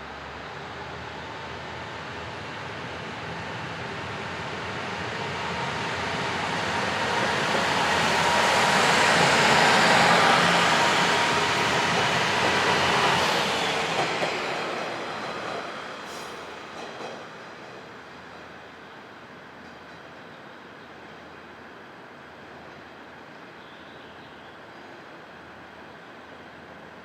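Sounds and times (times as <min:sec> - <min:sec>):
diesel railcar passing: 0:00.0 - 0:27.0.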